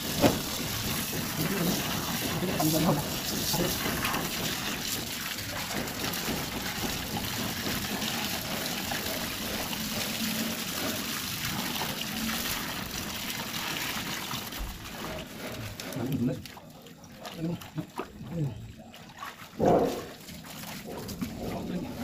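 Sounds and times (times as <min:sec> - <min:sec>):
hose water splashing into puddle: 0:00.0 - 0:22.0.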